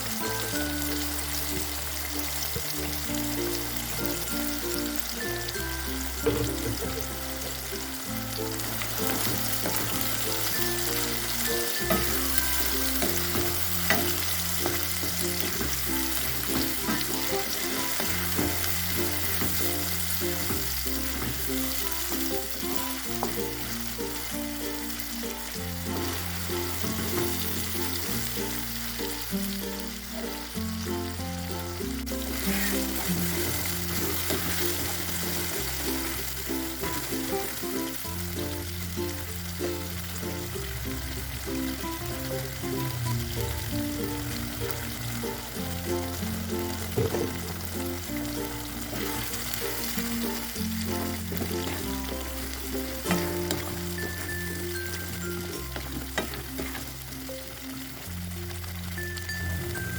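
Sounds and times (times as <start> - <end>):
background music: 0.0 - 59.9
paste sizzling in oil: 0.0 - 59.9.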